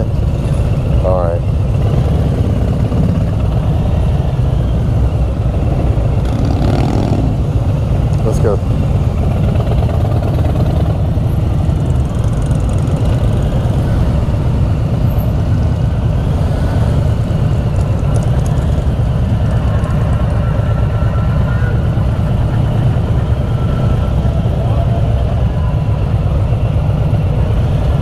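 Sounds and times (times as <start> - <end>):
motorcycle engine running low: 0.0 - 28.0.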